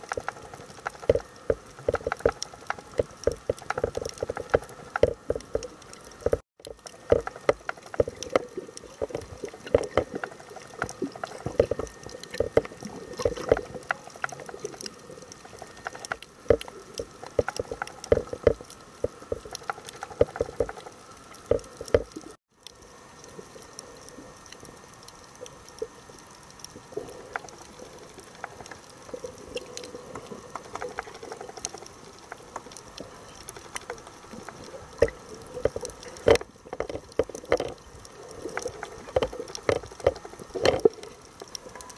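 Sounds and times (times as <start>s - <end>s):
sharp clicks and crackles: 0.0s - 41.9s
underwater gurgling and sloshing: 0.0s - 41.9s.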